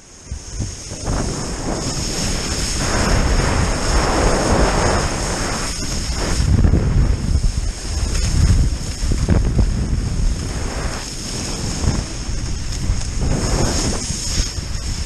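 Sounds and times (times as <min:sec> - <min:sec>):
wind buffeting microphone: 0:00.0 - 0:15.0
wakeboard spray hissing: 0:00.1 - 0:15.0.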